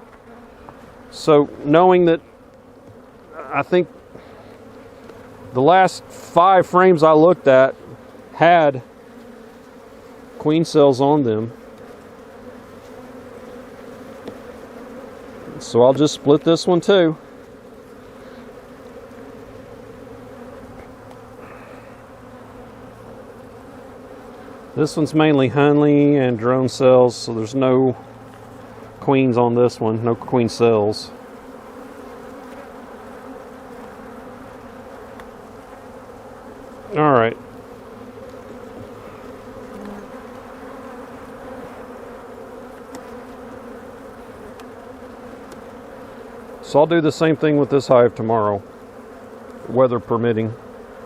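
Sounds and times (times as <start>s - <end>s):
honey bees buzzing: 0.0s - 51.0s.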